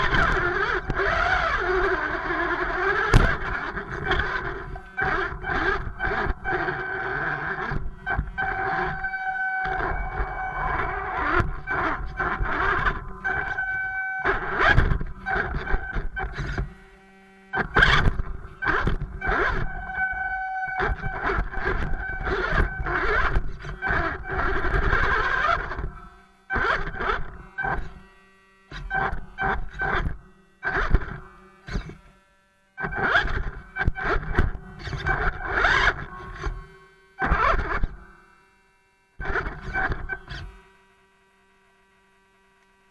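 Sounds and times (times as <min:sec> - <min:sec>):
electric motor whining: 0:00.0 - 0:40.8.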